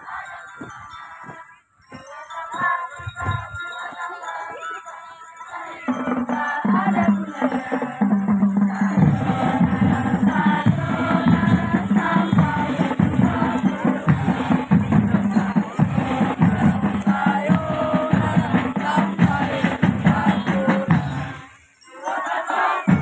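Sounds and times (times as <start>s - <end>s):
music with group singing: 0.0s - 23.0s.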